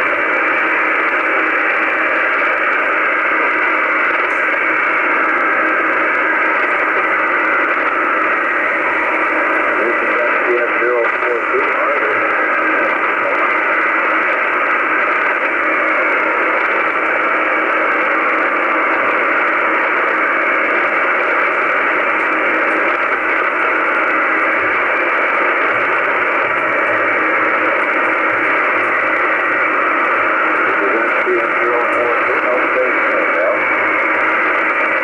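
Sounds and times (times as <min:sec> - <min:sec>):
radio receiver hiss: 0:00.0 - 0:35.0.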